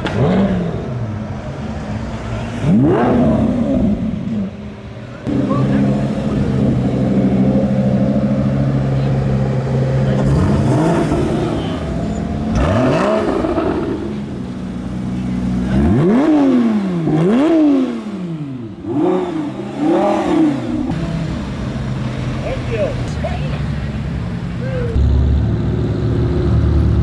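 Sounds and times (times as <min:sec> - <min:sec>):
sports car engines revving: 0:00.0 - 0:27.0.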